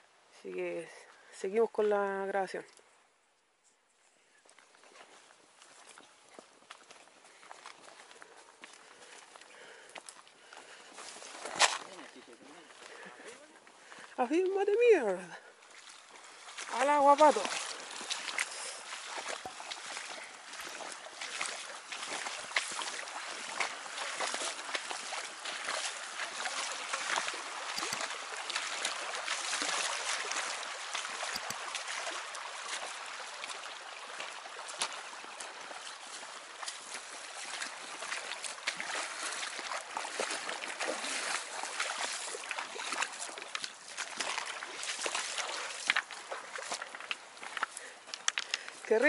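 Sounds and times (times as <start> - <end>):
footsteps on river stones: 1.8 - 49.0
running water rushing: 4.8 - 49.0
water splashing around legs: 4.9 - 49.0.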